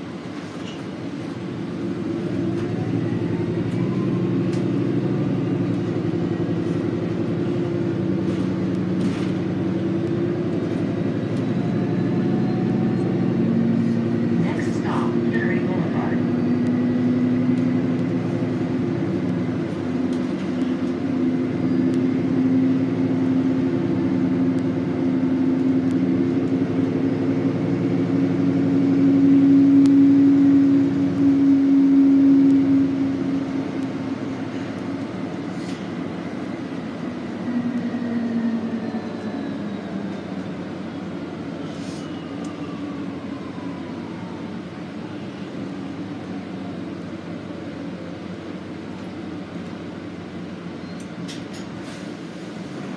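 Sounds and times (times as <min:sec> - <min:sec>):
bus engine humming: 0:00.0 - 0:52.9.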